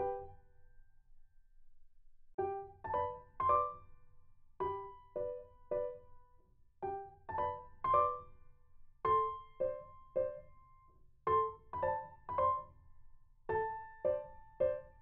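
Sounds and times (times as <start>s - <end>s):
soft piano music: 0.0s - 0.5s, 2.4s - 15.0s.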